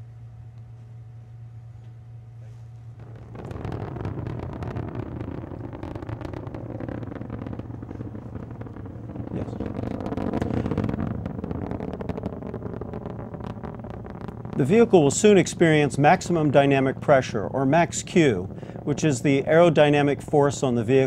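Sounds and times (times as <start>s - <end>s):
rocket engines roaring: 3.0s - 21.0s.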